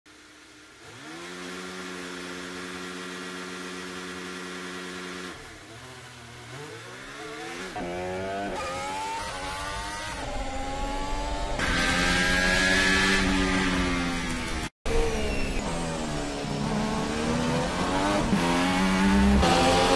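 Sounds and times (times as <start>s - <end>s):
racing car engine accelerating: 0.8s - 19.9s.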